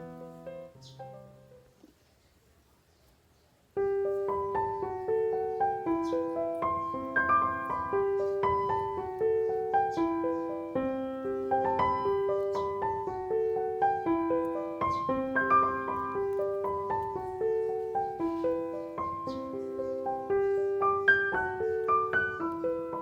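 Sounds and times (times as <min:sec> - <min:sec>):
light piano notes: 0:00.0 - 0:23.0.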